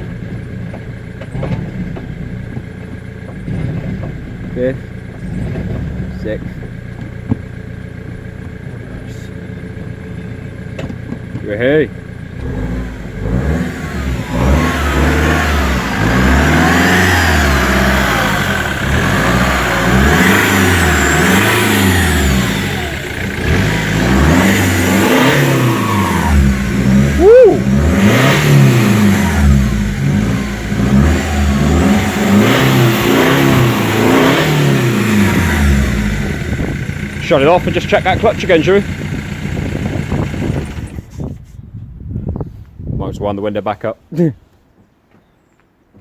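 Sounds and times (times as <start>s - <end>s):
diesel engine revving: 0.0s - 41.1s.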